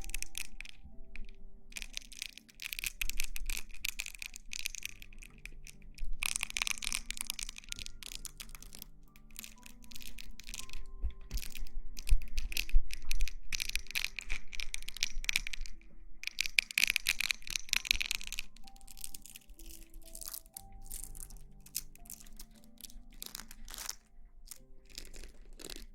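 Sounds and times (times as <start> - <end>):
close rustling and crackling: 0.0 - 25.9
soft background music: 0.0 - 25.9.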